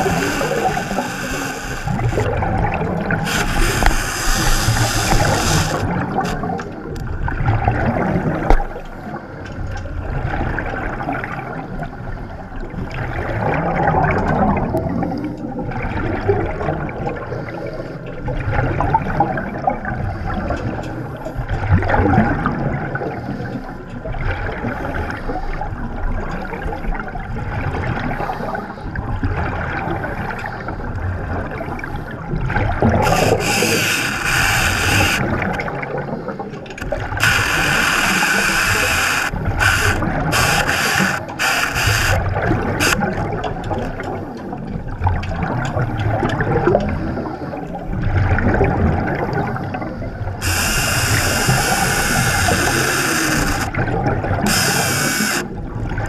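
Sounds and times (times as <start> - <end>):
underwater bubbling and gurgling: 0.0 - 56.0.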